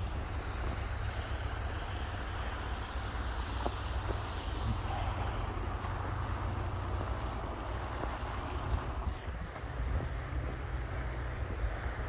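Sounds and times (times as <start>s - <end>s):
truck driving past: 0.0s - 12.0s
tyres through wet snow: 0.0s - 12.0s
wind rumble on microphone: 0.0s - 12.0s.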